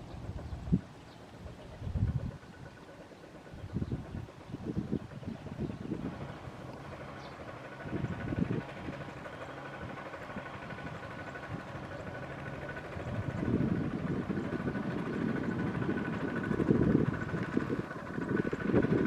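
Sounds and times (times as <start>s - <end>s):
diesel tiller engine running: 0.0s - 19.0s.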